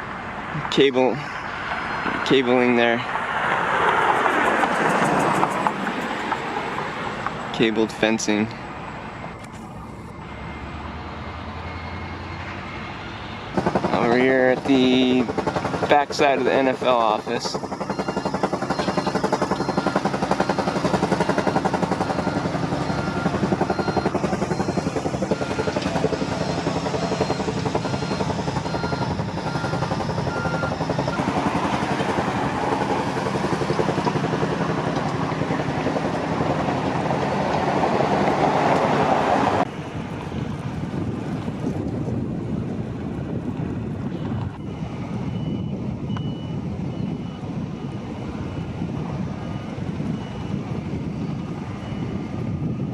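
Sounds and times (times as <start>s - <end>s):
engine drone: 0.0s - 52.9s.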